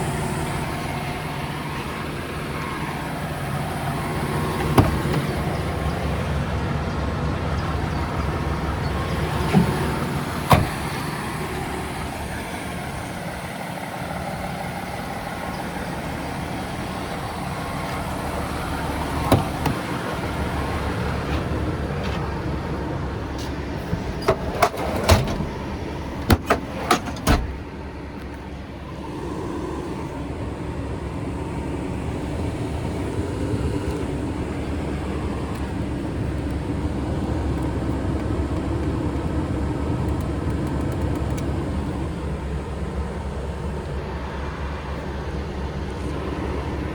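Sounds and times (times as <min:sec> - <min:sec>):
diesel truck idling: 0:00.0 - 0:46.9.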